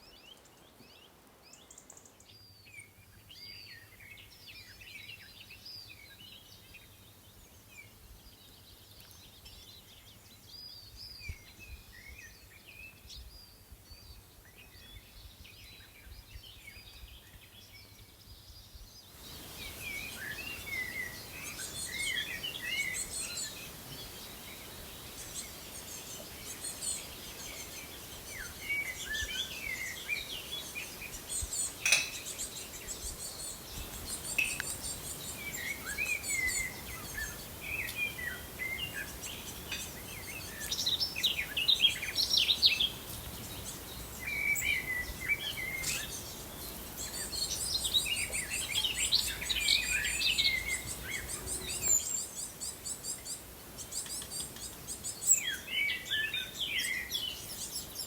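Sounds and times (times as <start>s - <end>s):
faint background hiss: 0.0s - 58.0s
songbirds chirping: 0.0s - 58.0s.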